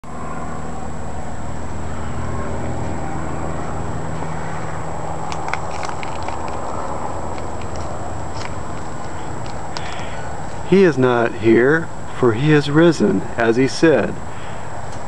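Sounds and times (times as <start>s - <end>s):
low mechanical hum: 0.0s - 15.0s
outdoor background noise: 0.0s - 15.0s.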